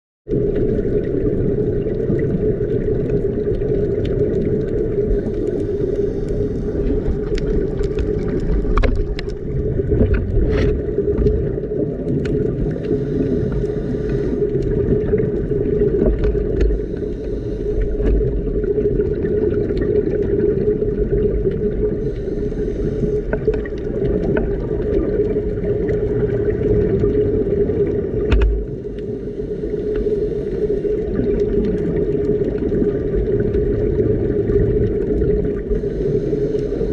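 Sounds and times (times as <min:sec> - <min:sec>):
exhaled bubbles rushing: 0:00.3 - 0:36.9
steady low underwater drone: 0:00.3 - 0:36.9.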